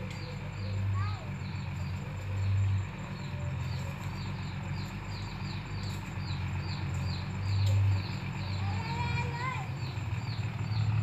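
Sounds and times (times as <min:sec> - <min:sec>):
distant diesel truck engine rumble: 0:00.0 - 0:11.0.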